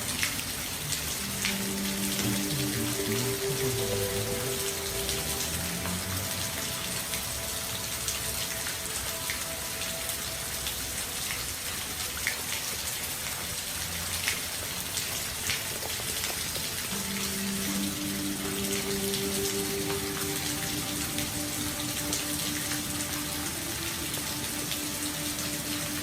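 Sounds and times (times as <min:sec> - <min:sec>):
raindrops ticking close by: 0:00.0 - 0:26.0
steady rain: 0:00.0 - 0:26.0.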